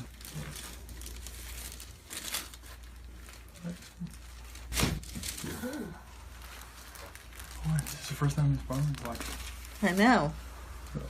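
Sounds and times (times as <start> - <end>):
soft rustling and crinkling: 0.0 - 11.0.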